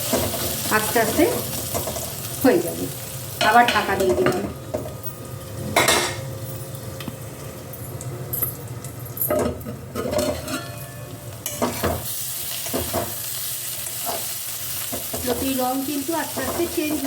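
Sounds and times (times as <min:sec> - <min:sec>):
food sizzling in a pan: 0:00.0 - 0:09.2, 0:09.9 - 0:17.0.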